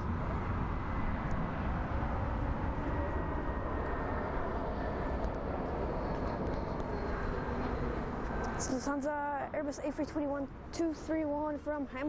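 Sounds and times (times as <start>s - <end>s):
distant jet engines roaring: 0.0s - 12.0s.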